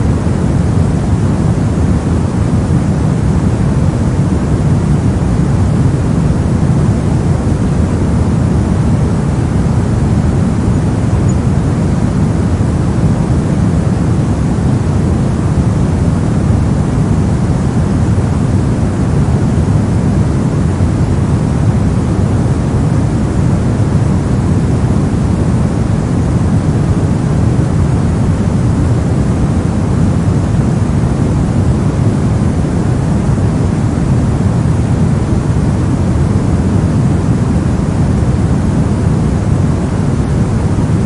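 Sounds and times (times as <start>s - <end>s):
deep steady noise wash: 0.0s - 41.0s.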